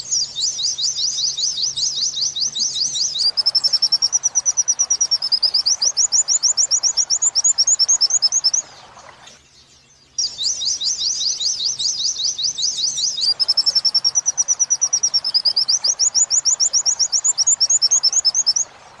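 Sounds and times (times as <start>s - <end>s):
bird whistling and trilling: 0.0s - 8.9s, 10.2s - 19.0s.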